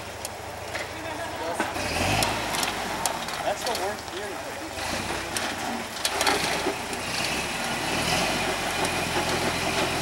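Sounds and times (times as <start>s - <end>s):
truck engine running under load: 1.7s - 10.0s.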